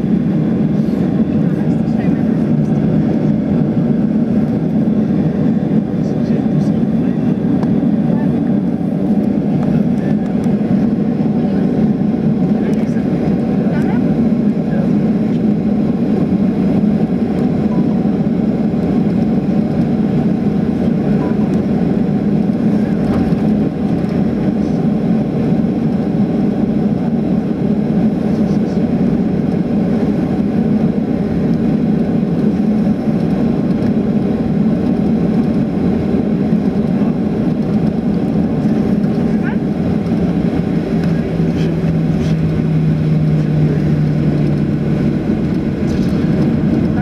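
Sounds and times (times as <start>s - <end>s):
airframe rumble on taxiway: 0.0s - 47.0s
jet engines humming: 0.0s - 47.0s.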